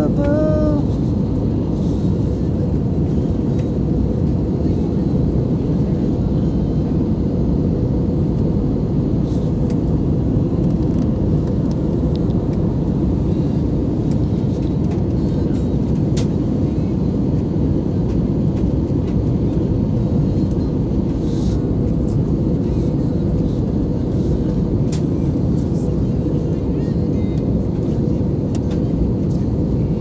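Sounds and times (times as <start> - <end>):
airplane engine rumble: 0.0 - 30.0.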